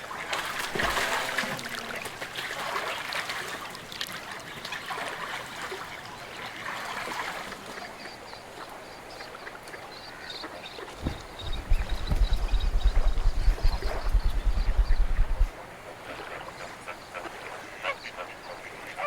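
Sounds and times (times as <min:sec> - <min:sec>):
water trickling and splashing: 0:00.0 - 0:15.6.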